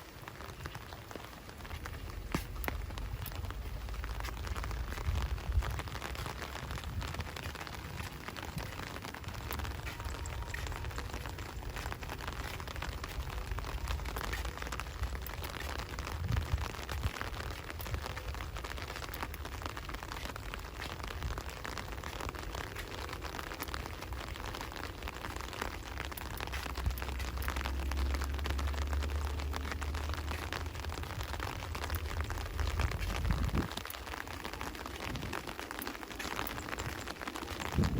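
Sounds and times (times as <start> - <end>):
rain drops pattering: 0.0 - 37.9.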